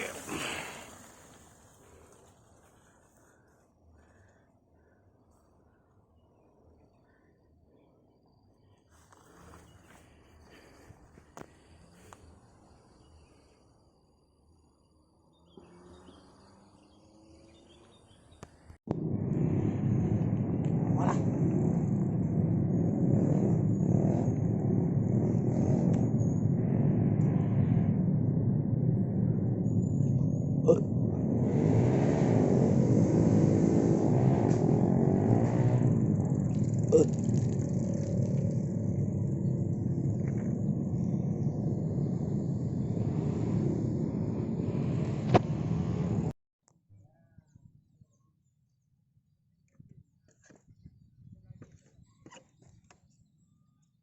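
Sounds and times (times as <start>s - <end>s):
vehicle engine and road rumble: 0.0s - 46.4s.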